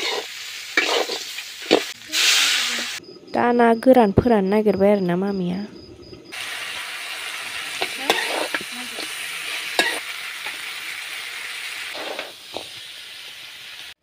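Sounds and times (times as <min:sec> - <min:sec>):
food sizzling: 0:00.0 - 0:03.9, 0:04.6 - 0:14.0.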